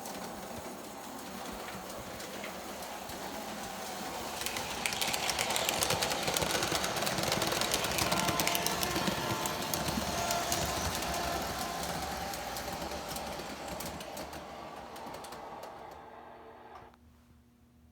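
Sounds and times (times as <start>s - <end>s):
model locomotive motor: 0.0s - 16.9s
model train wheels clattering: 0.0s - 16.9s.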